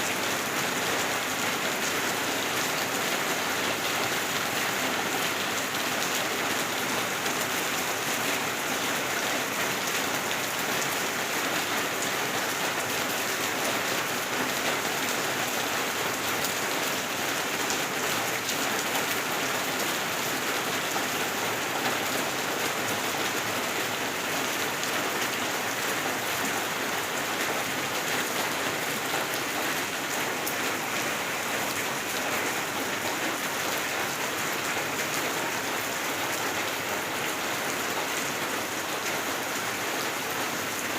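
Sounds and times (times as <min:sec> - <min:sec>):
steady rain drumming: 0:00.0 - 0:40.9.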